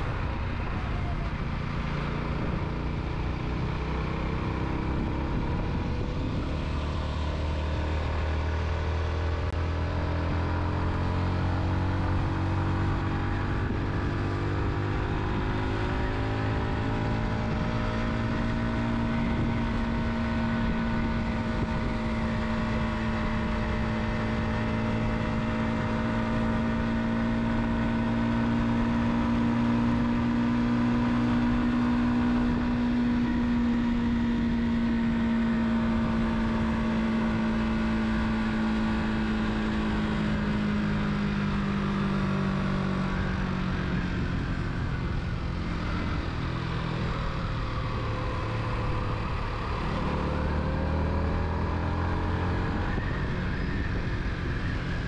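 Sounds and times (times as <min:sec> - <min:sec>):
car engine driving: 0:00.0 - 0:55.0.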